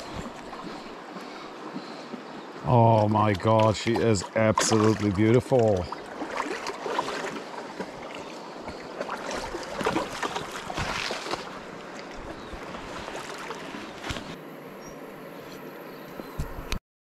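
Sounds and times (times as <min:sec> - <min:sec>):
river water splashing and gurgling: 0:00.0 - 0:16.7.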